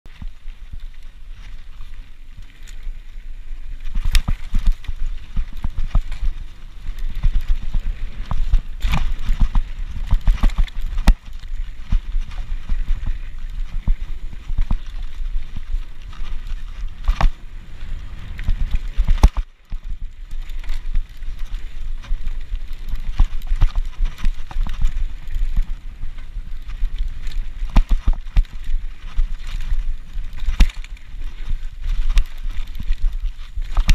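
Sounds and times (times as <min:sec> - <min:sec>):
bike knocking and rattling: 0:00.1 - 0:33.9
bike tyres rumbling on dirt: 0:00.1 - 0:33.9.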